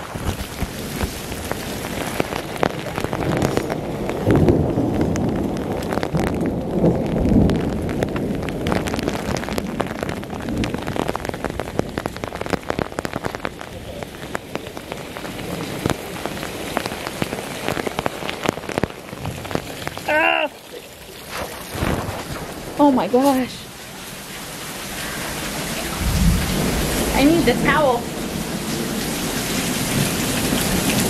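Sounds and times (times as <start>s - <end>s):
heavy rain: 0.0s - 31.0s
raindrops ticking on microphone: 0.0s - 31.0s.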